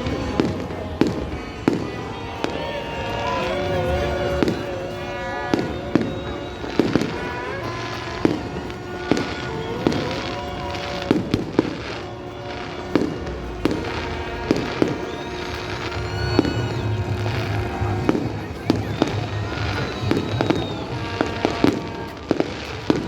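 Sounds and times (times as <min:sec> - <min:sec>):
fireworks banging: 0:00.0 - 0:23.0
music playing: 0:00.0 - 0:23.0.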